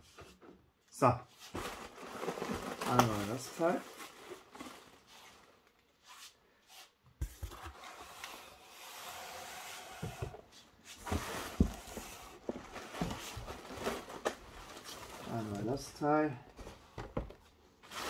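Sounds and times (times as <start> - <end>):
cardboard packaging rustling: 1.3 - 6.0, 7.3 - 18.0.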